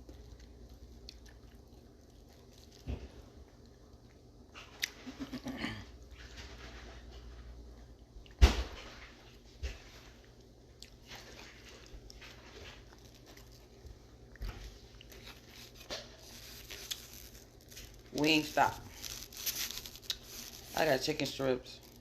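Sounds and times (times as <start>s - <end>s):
person chewing fries: 0.0s - 6.3s, 10.1s - 22.0s.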